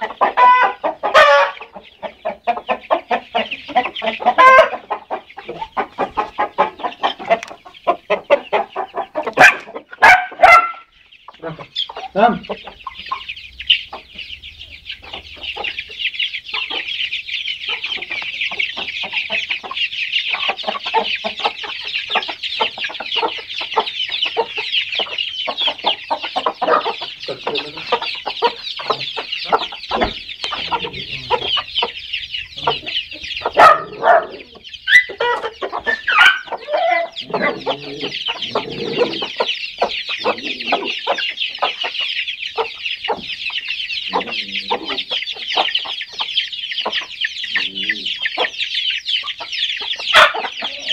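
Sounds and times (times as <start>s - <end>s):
chickens clucking: 0.0s - 50.9s
chicks peeping: 0.0s - 50.9s
loud low chicken calls: 0.0s - 50.9s.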